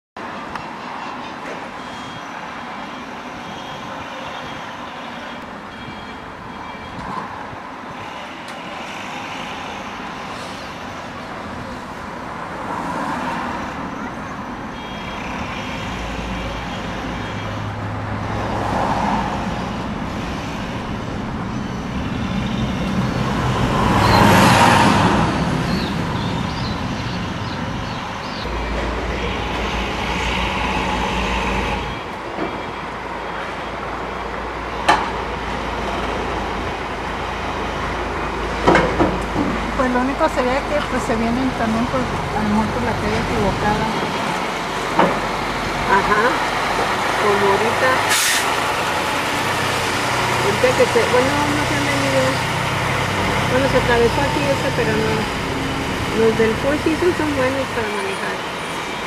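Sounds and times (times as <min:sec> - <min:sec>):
heavy trucks driving past: 0:08.0 - 0:59.0.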